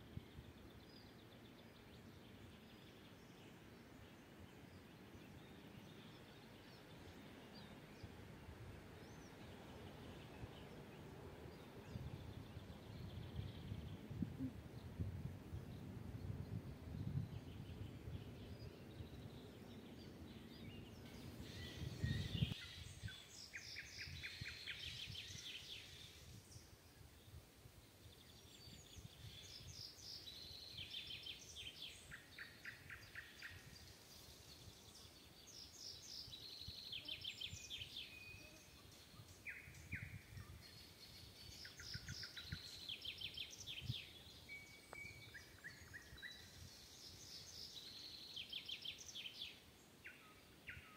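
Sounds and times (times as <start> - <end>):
songbirds trilling: 0.5 - 26.7, 28.0 - 50.9.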